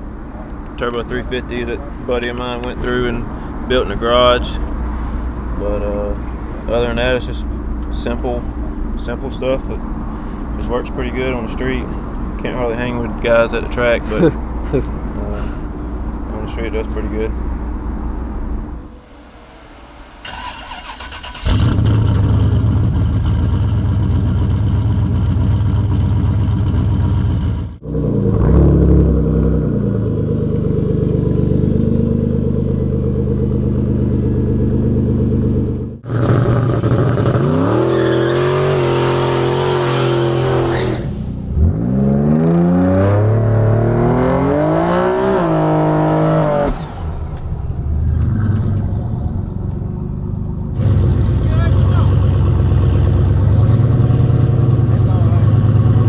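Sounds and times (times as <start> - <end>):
car engines revving and accelerating: 0.0 - 20.8, 21.4 - 56.0.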